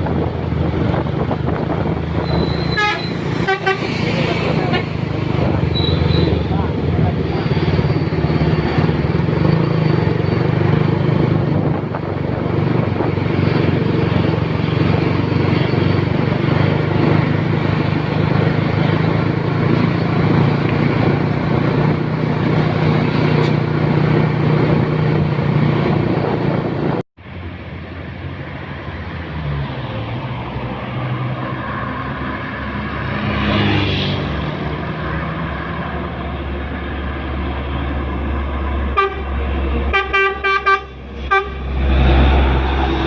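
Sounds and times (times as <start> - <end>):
truck engine droning: 0.0 - 43.0.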